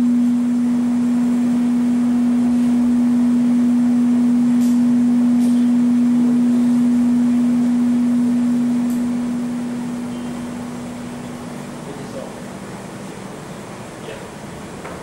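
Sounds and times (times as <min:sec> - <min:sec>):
loud low hum: 0:00.0 - 0:15.0.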